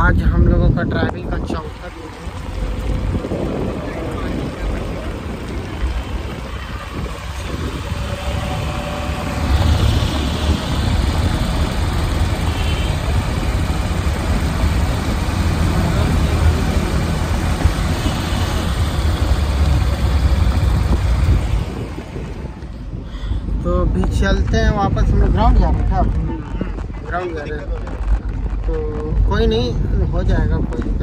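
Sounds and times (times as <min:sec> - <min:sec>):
car road and engine noise: 0:00.0 - 0:31.0
wind buffeting on microphone: 0:00.0 - 0:31.0.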